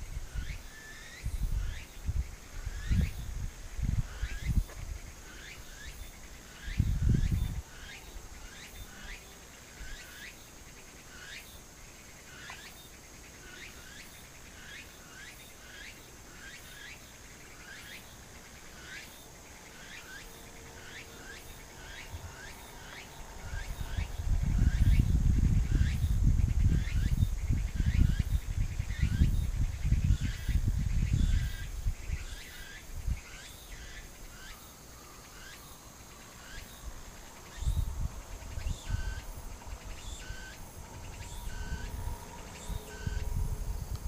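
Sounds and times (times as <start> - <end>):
cricket chirping: 0.0 - 44.0
insects trilling: 0.0 - 44.0.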